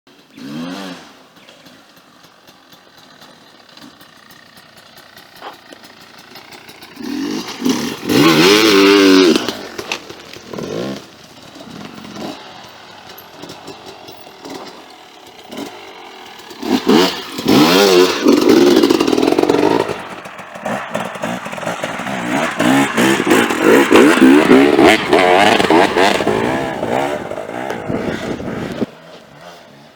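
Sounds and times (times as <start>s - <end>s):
dirt bike engine revving: 0.1s - 29.9s.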